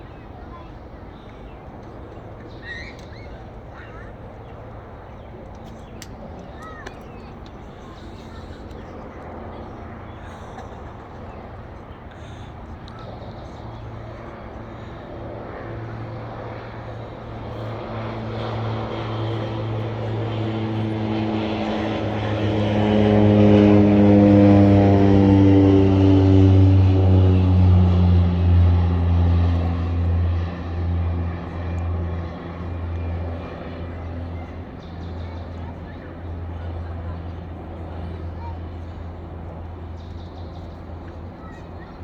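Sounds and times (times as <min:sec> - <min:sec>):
propeller aircraft flying past: 0:00.0 - 0:42.0.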